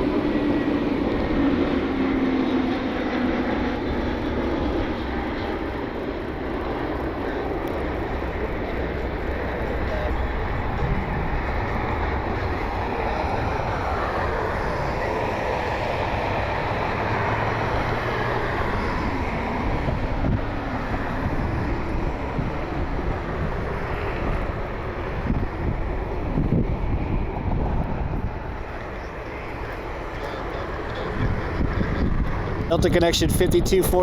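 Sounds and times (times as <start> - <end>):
jet engines rumbling: 0.0 - 34.0
wind buffeting microphone: 0.0 - 34.0.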